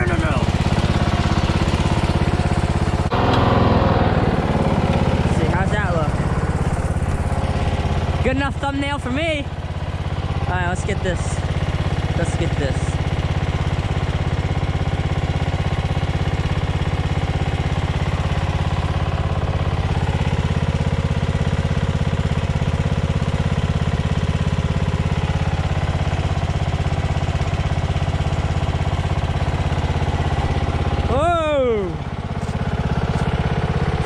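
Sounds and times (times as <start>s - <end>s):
riding lawn mower engine running: 0.0s - 34.0s.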